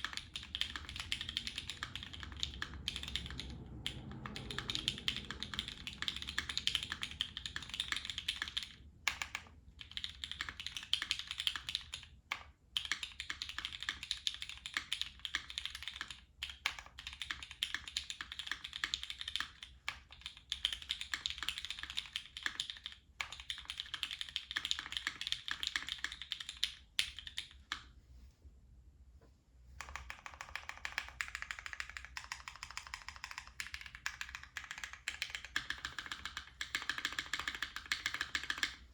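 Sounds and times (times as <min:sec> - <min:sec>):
fast mechanical keyboard typing: 0:00.0 - 0:27.8, 0:29.8 - 0:38.8.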